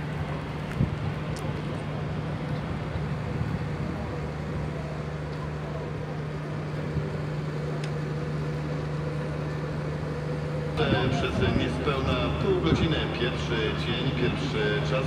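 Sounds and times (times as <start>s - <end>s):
low machine hum: 0.0s - 15.0s
outdoor background noise: 0.0s - 15.0s
faint distant voices: 0.1s - 15.0s.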